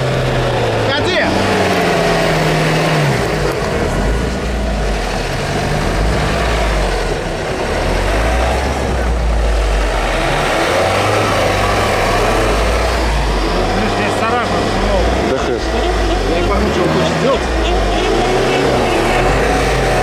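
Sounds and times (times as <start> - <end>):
car engine revving under load: 0.0 - 20.0.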